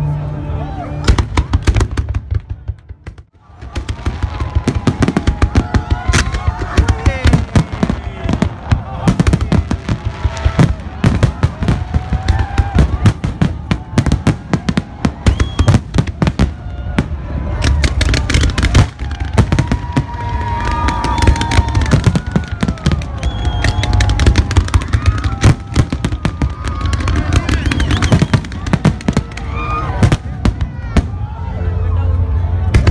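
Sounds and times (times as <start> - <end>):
fireworks bursting and crackling: 1.0 - 31.4, 32.6 - 32.9.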